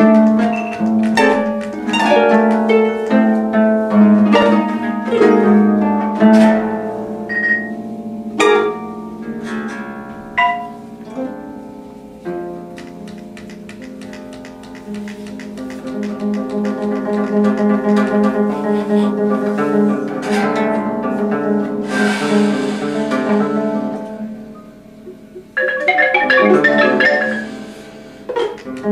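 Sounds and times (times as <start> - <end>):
harps plucking notes and chords: 0.0 - 21.9, 22.6 - 28.9.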